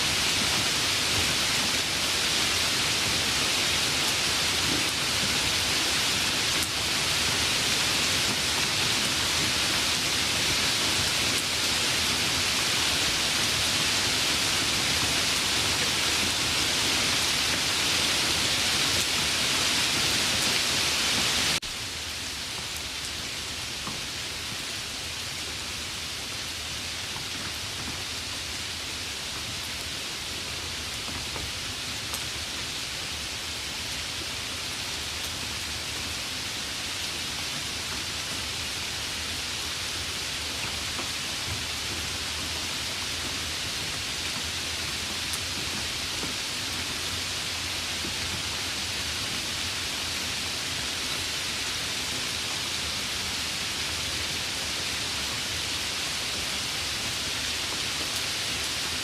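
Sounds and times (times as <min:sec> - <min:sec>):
raindrops: 0:00.0 - 0:59.0
steady rain falling: 0:00.0 - 0:59.0.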